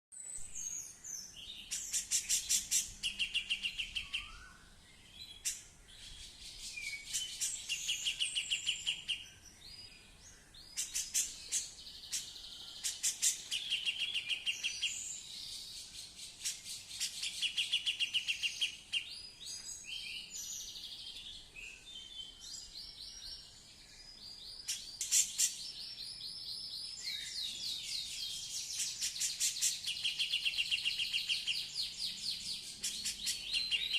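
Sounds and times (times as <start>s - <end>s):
bird chattering song: 0.2s - 33.9s.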